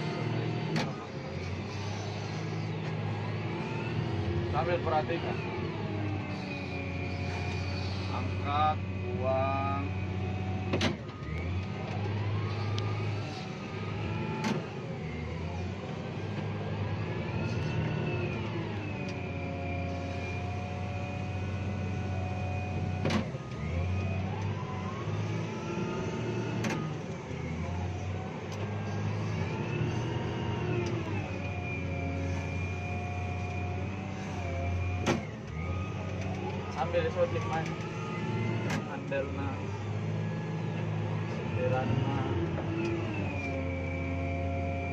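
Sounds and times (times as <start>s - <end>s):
diesel engine running under load: 0.0s - 44.9s
high engine whine: 0.0s - 44.9s.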